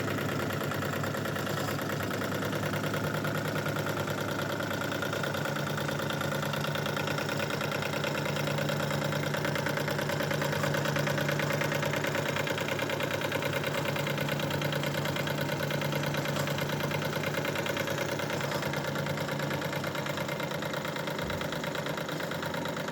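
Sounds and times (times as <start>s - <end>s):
model steam engine chuffing: 0.0s - 22.9s.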